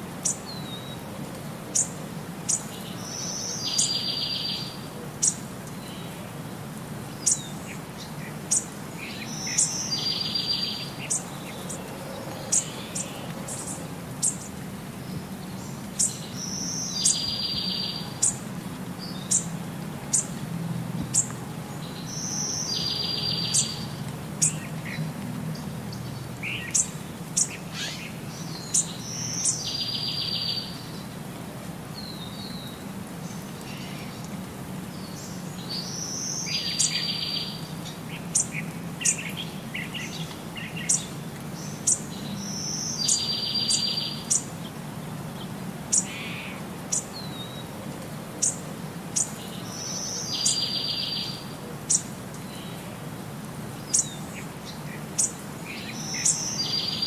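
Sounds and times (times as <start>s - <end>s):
birds chirping: 1.7s - 6.3s, 7.0s - 31.2s, 32.0s - 57.0s.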